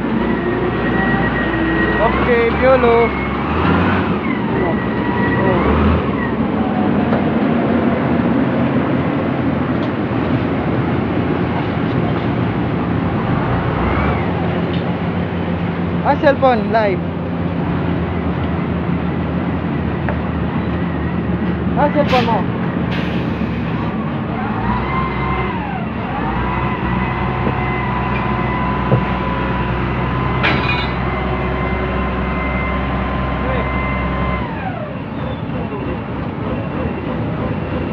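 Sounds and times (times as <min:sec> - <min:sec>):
diesel engine droning: 0:00.0 - 0:37.9.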